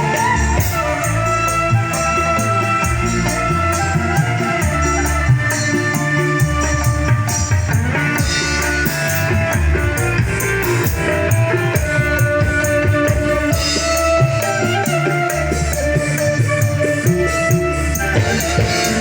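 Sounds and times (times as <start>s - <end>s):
band playing over loudspeakers: 0.0s - 19.0s.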